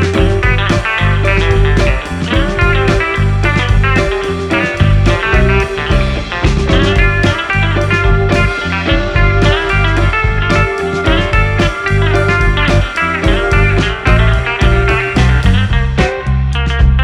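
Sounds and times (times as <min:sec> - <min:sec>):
guitar-driven instrumental music: 0:00.0 - 0:17.0.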